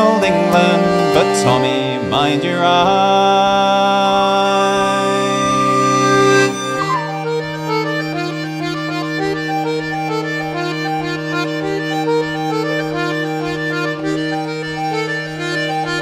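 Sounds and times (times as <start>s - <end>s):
accordion playing folk tune: 0.0s - 16.0s.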